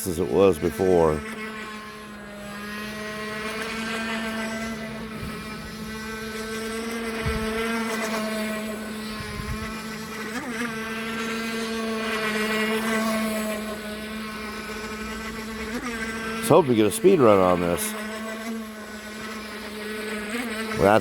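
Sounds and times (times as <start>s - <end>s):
electric boat motor whining: 0.0s - 21.0s.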